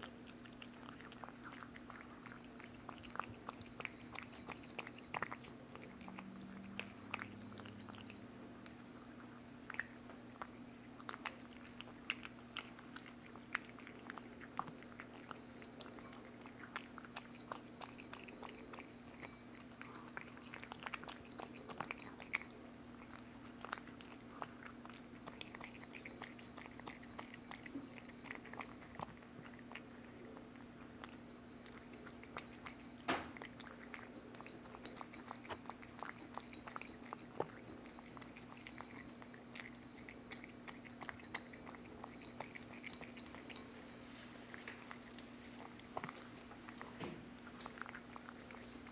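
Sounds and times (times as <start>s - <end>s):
cat eating wet food: 0.0s - 48.9s
faint low hum: 0.0s - 48.9s.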